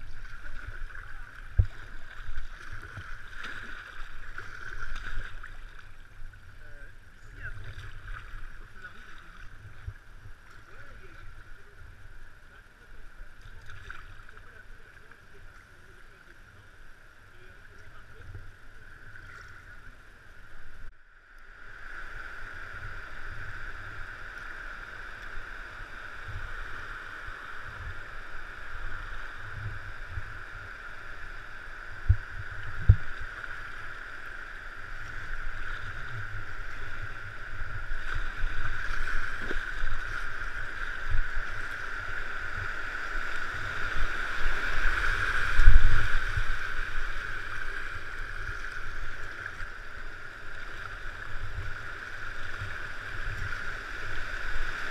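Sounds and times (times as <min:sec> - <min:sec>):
rushing river water: 0:00.0 - 0:54.9.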